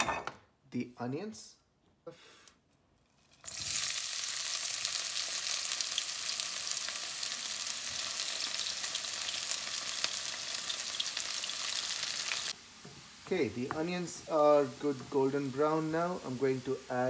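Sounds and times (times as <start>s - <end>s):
onions sizzling in hot oil: 3.2s - 17.0s.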